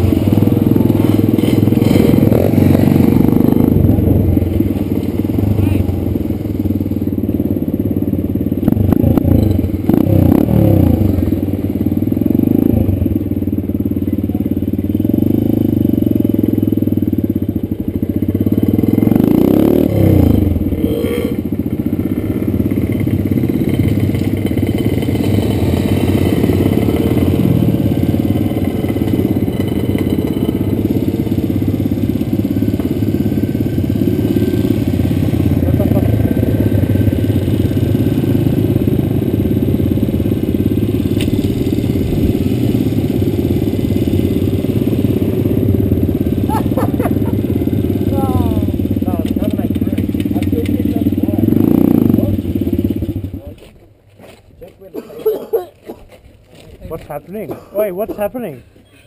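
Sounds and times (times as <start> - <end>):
dirt bike engine revving: 0.0 - 13.6, 14.9 - 53.6.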